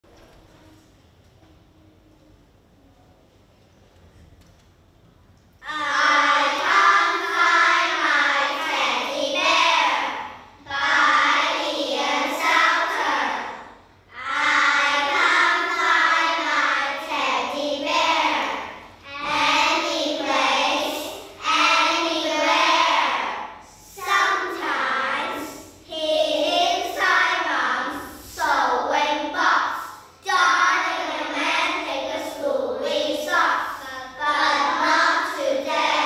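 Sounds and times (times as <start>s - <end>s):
children reciting in unison: 5.6s - 36.0s.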